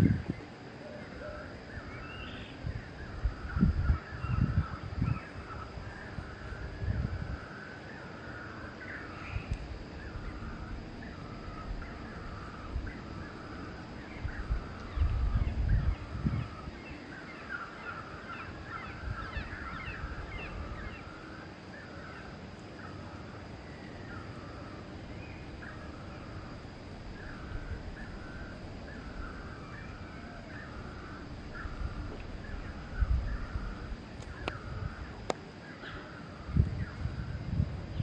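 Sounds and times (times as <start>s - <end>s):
birds calling: 0.0s - 38.0s.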